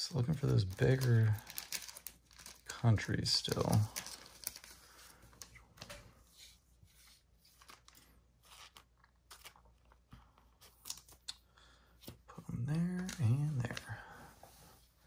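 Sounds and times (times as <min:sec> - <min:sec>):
trading cards and sleeves rustling: 0:00.0 - 0:15.0.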